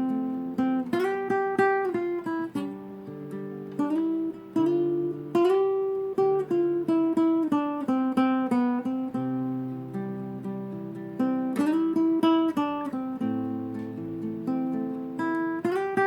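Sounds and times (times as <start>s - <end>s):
acoustic guitar plucked melody: 0.0s - 16.0s.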